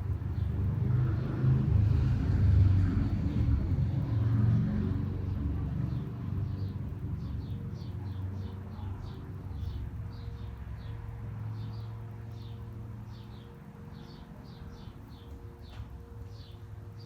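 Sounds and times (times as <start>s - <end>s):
low city traffic rumble: 0.0s - 17.0s
small songbirds chirping: 0.0s - 17.0s.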